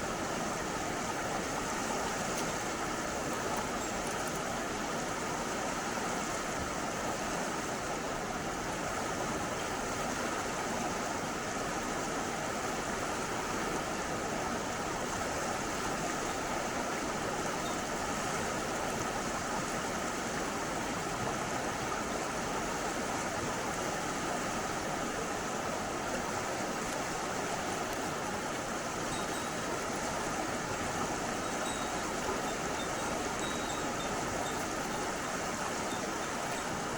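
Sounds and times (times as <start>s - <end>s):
stream rushing: 0.0s - 36.9s.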